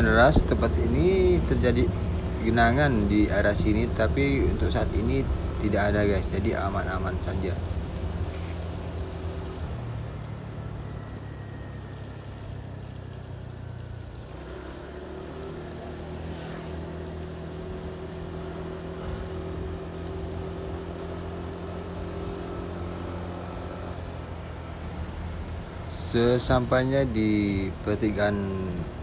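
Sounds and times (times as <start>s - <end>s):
road noise on wet road: 0.0s - 29.0s.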